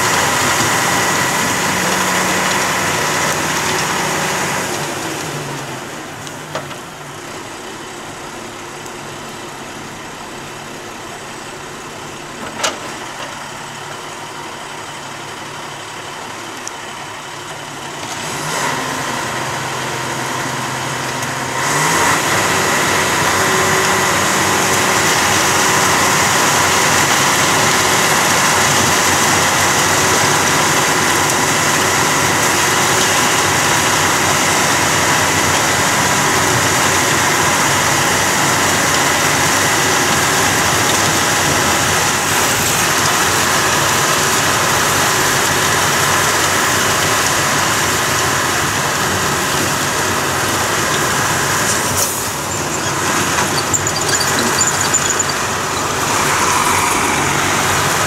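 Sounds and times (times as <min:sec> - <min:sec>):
hiss and whine of snow blower: 0:00.0 - 0:58.0
snow blower engine: 0:00.0 - 0:58.0.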